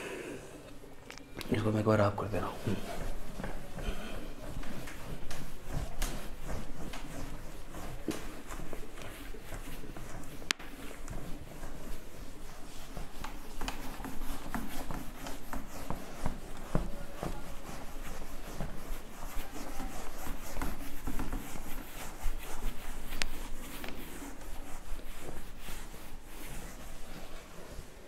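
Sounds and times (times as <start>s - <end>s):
duster rubbing whiteboard: 1.6s - 28.0s.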